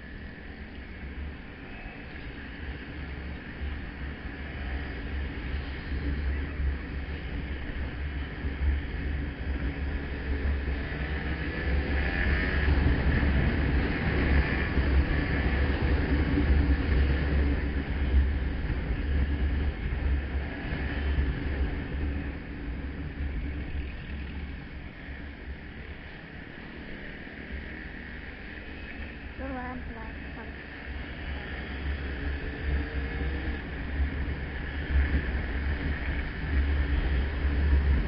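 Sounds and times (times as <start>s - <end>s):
motorcycle engine running: 0.0s - 38.0s
road noise: 0.0s - 38.0s
wind rumble on microphone: 0.0s - 38.0s.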